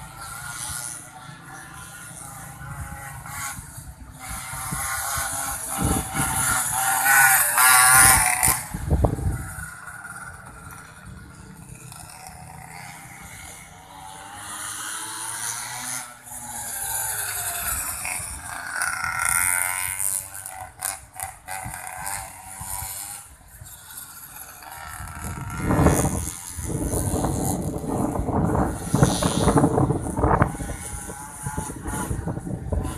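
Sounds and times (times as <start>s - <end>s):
mini motorbike engine buzzing: 0.0s - 32.9s.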